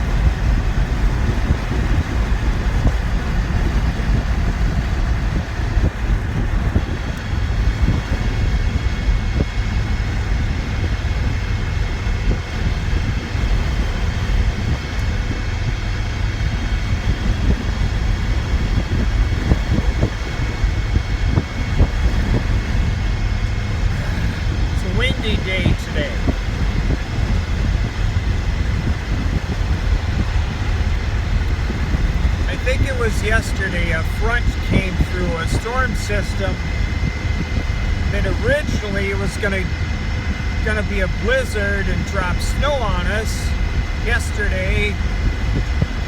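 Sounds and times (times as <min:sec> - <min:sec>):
drivetrain and road rumble: 0:00.0 - 0:46.0
wind rushing into cab: 0:00.0 - 0:46.0.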